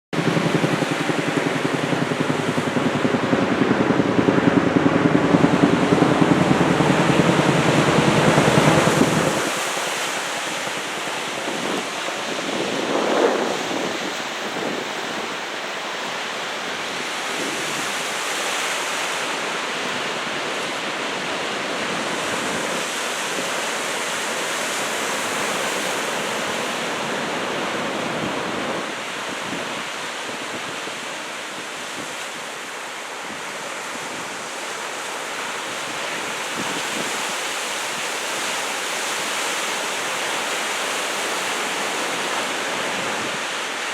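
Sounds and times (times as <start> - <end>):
wind buffeting microphone: 0.1 - 34.6, 35.3 - 39.6
ocean surf washing in: 0.2 - 43.9.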